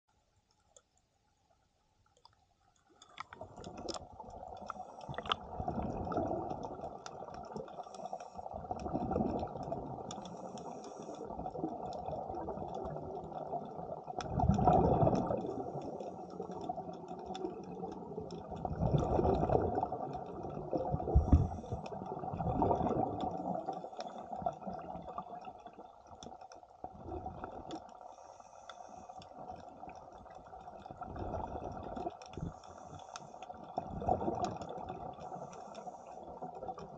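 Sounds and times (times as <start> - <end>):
faint crackling clicks: 0.2 - 36.9
underwater bubbling: 2.6 - 36.9.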